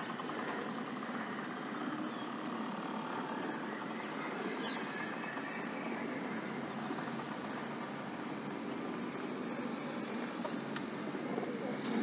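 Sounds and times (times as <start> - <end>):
distant city hum: 0.0 - 12.0.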